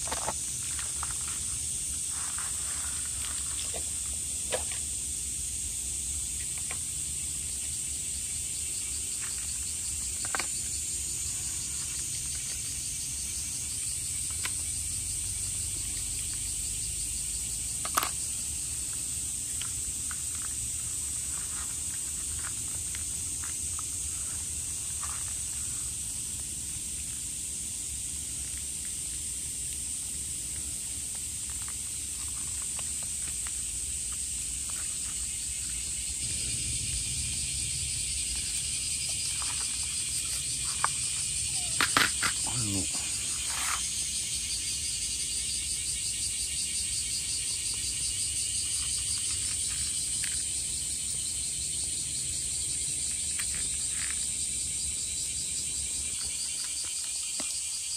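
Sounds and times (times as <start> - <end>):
insects chirring: 0.0 - 57.9
pulsing insect call: 0.0 - 57.9.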